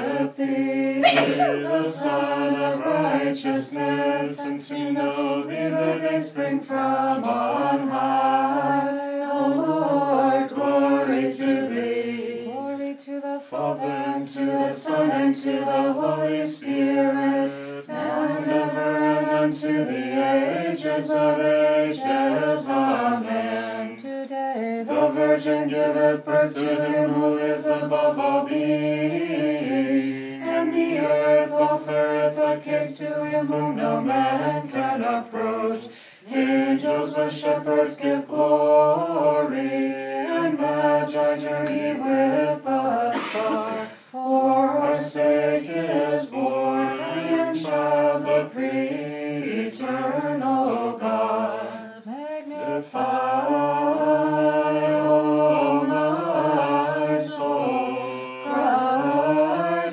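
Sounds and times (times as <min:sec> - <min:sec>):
unaccompanied voices singing chant: 0:00.0 - 0:59.9.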